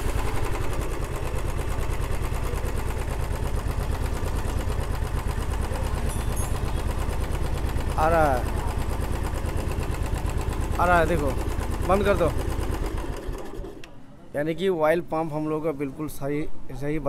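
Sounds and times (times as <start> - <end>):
motorcycle engine idling: 0.0 - 13.8.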